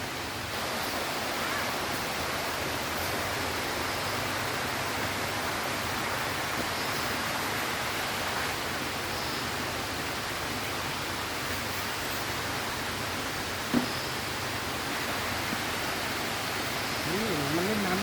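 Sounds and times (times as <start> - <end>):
waterfall rushing over rock: 0.0 - 18.0.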